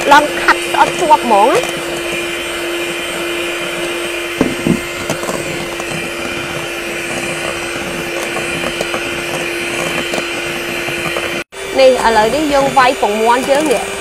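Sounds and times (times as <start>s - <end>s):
electric hand mixer running: 0.0s - 14.0s.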